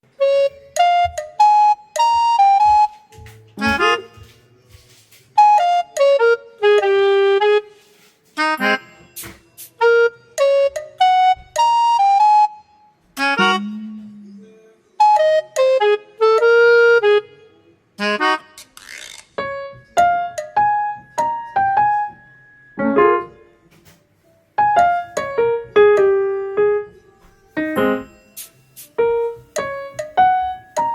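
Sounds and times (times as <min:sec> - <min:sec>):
light keyboard melody: 0:00.0 - 0:18.8, 0:19.4 - 0:30.9.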